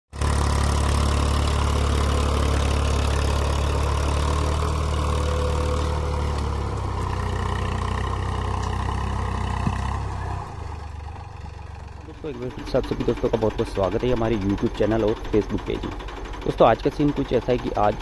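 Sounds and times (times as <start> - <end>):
tractor diesel engine hum: 0.1 - 18.0.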